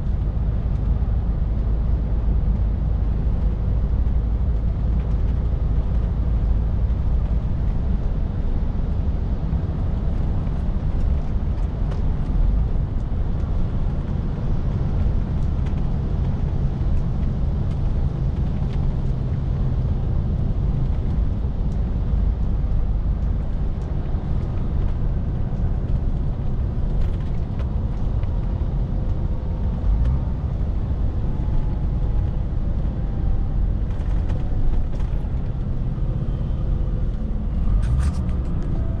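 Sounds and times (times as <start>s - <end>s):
lorry diesel engine running: 0.0s - 39.0s
road noise: 0.0s - 39.0s.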